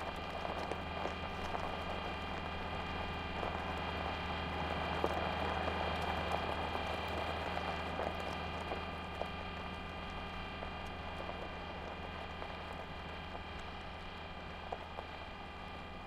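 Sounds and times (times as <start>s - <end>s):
wheels crunching on gravel: 0.0s - 16.0s.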